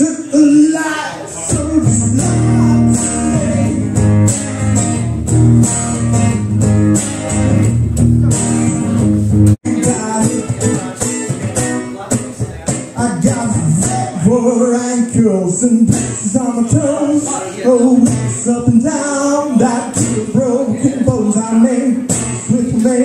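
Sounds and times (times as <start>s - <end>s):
electric guitar: 1.3s - 23.0s
blues band playing: 1.4s - 23.0s
bass line: 1.5s - 11.9s, 12.6s - 23.0s.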